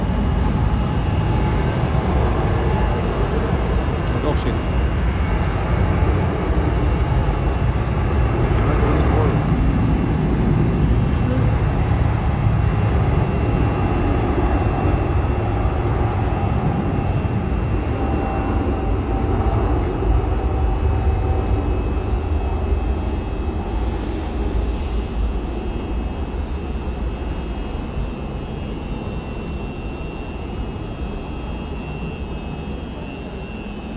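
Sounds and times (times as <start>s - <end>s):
jet engines rumbling and whining: 0.0s - 33.9s.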